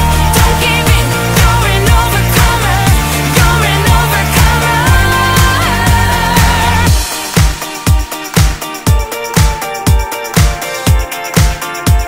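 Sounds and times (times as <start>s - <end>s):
upbeat pop music: 0.0s - 12.0s.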